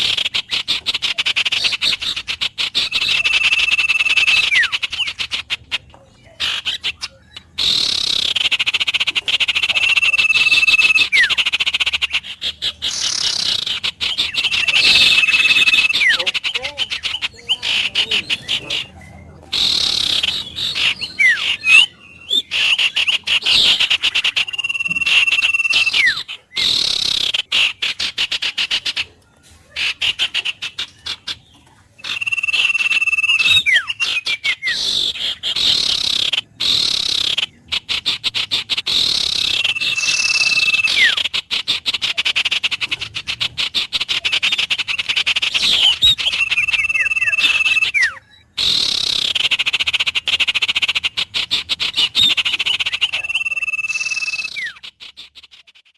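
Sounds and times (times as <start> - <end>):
bird whistles: 0.0 - 29.1, 32.0 - 55.9
frogs calling: 0.0 - 55.9.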